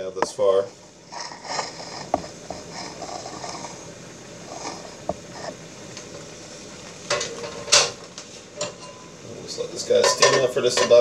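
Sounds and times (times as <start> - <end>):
pan simmering with soft bubbling: 0.0 - 11.0.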